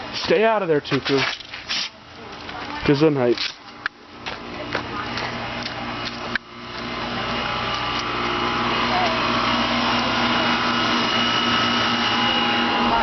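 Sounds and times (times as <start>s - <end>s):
air conditioner compressor hum: 0.0s - 13.0s.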